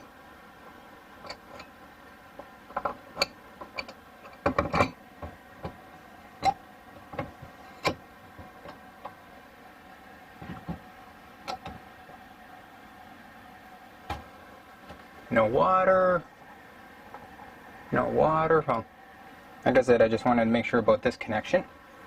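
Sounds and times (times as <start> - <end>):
air conditioner hum: 0.0 - 22.0.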